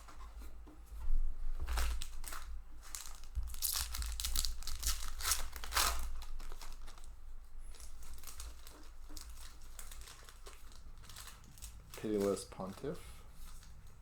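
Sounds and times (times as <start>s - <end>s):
wrapper crinkling and tearing: 1.7s - 14.0s.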